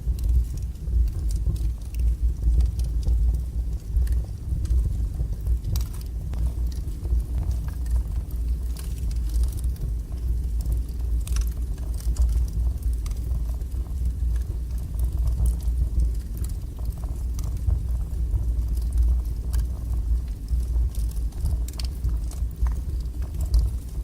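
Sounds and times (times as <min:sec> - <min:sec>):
burning wood crackling and popping: 0:00.0 - 0:24.0
wood fire flames roaring: 0:00.0 - 0:24.0.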